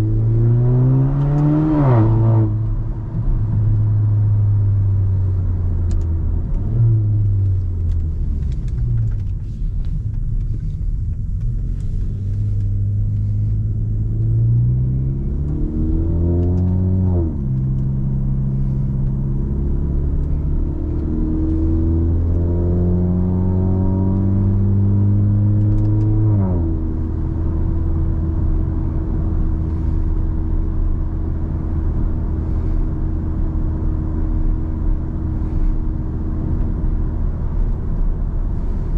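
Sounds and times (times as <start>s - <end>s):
car engine accelerating through gears: 0.0s - 38.9s
road noise: 0.0s - 38.9s.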